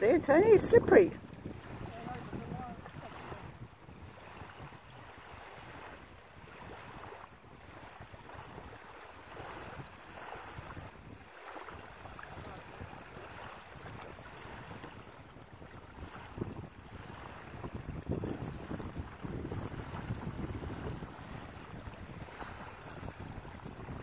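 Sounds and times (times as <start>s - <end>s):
small waves lapping: 0.0s - 24.0s
wind buffeting microphone: 0.0s - 24.0s.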